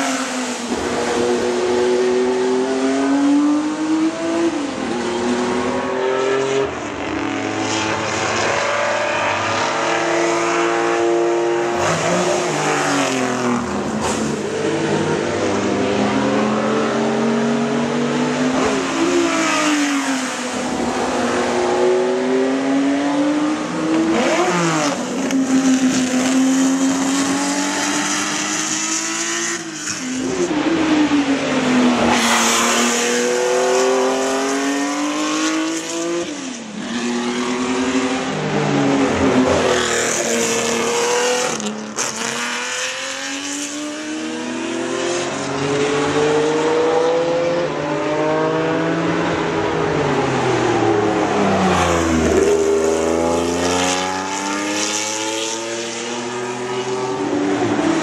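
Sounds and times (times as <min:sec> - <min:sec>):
race cars passing at speed: 0:00.0 - 0:58.0.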